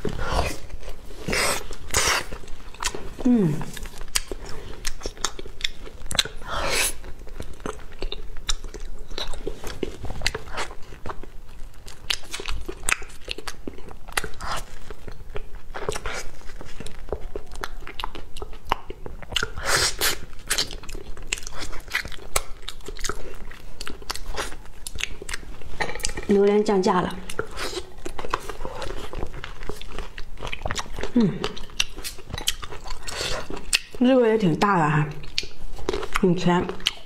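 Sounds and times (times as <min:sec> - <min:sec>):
biting and chewing fruit: 0:00.0 - 0:37.0.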